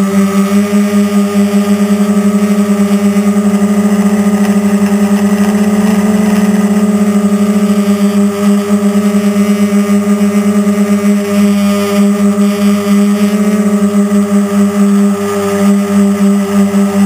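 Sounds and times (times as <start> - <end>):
quadcopter motors buzzing: 0.0 - 17.0.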